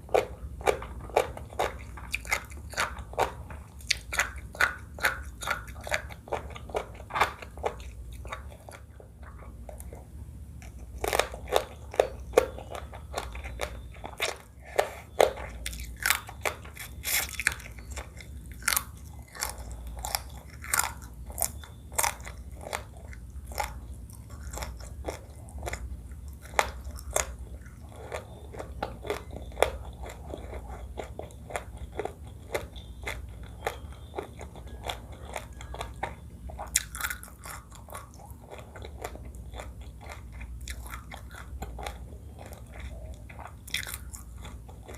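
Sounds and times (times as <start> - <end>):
close chewing and crunching: 0.0 - 44.9.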